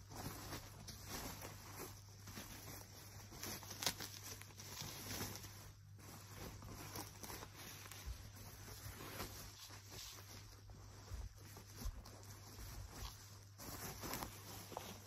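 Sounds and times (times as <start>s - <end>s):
bubble wrap rustling: 0.0s - 15.0s.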